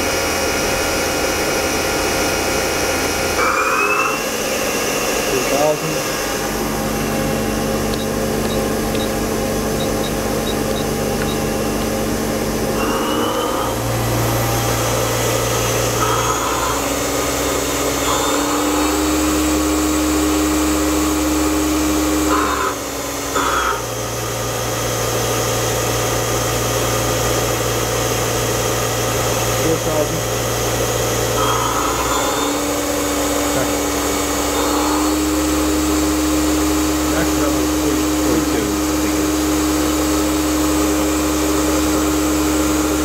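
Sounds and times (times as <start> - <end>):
lathe machine hum: 0.0 - 43.0.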